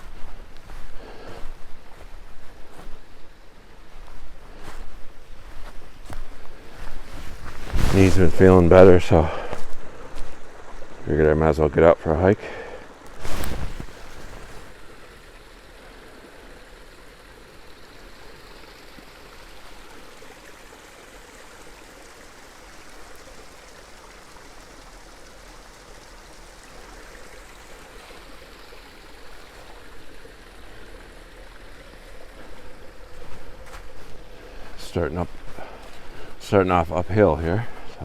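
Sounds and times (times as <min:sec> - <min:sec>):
creek flowing: 0:00.0 - 0:38.0.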